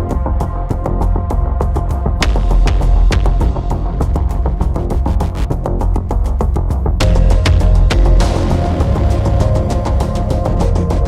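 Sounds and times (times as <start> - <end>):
music with heavy beat and bass: 0.0 - 11.0.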